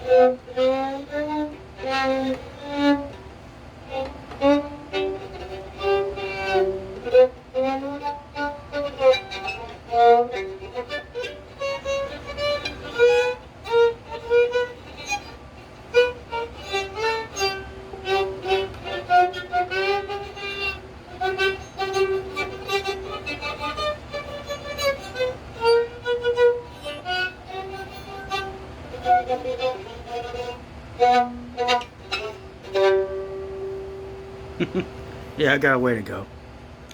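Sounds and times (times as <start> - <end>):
fiddle melody: 0.0 - 36.2.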